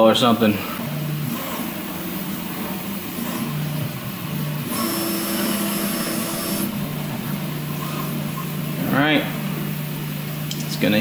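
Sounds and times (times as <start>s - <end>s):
high whine: 0.0s - 11.0s
stepper motors humming: 0.0s - 11.0s.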